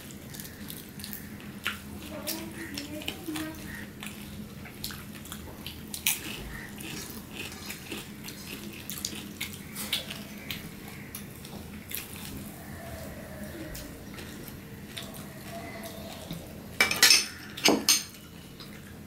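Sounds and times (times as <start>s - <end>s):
wet chewing and lip smacks: 0.0s - 13.1s, 13.7s - 16.5s
fingers mixing rice on plates: 0.0s - 19.0s.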